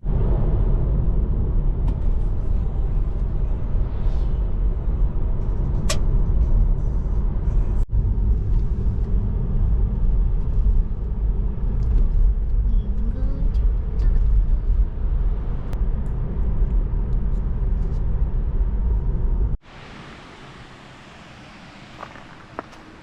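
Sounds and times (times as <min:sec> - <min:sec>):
road noise inside moving car: 0:00.0 - 0:23.0.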